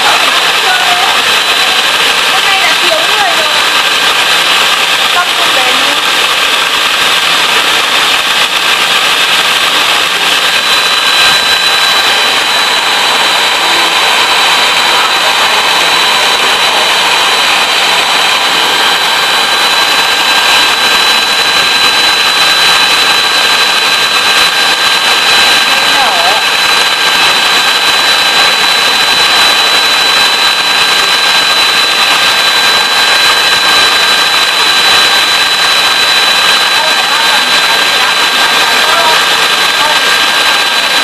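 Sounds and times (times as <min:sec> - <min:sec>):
electric mixer whipping: 0:00.0 - 0:41.0.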